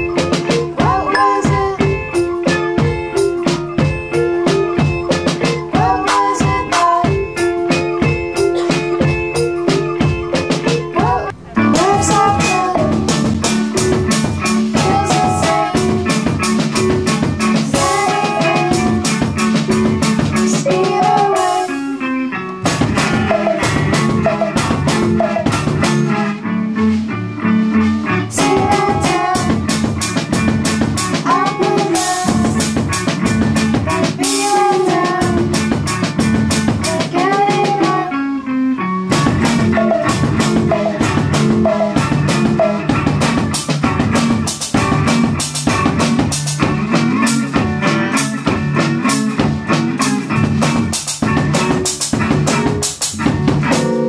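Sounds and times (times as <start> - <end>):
drum kit steady beat: 0.0 - 21.8, 22.6 - 26.1, 26.9 - 38.0, 39.1 - 54.0
electric guitar: 0.0 - 54.0.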